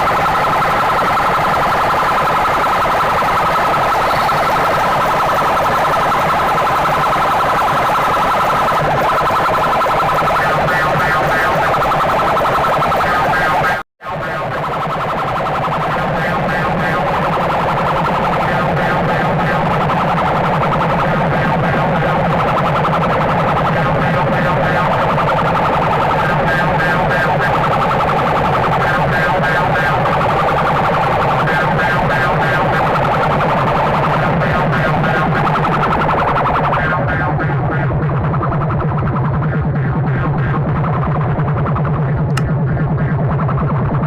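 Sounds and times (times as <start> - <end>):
distorted electronic dance music: 0.0 - 44.0.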